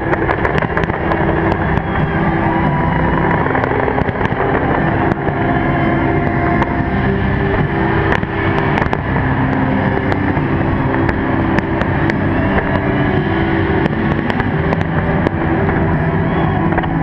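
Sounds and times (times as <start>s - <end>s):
fireworks bangs: 0.0s - 17.0s
sharp fireworks pops: 0.0s - 17.0s.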